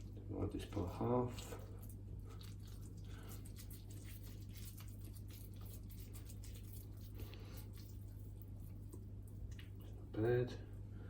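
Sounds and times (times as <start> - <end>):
hands squishing raw mince: 0.0 - 10.0
steady low hum: 0.0 - 11.0.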